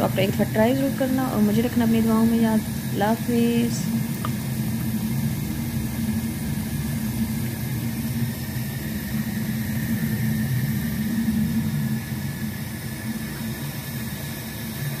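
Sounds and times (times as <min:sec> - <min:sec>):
low mechanical hum: 0:00.0 - 0:15.0
even rushing noise: 0:01.7 - 0:13.8.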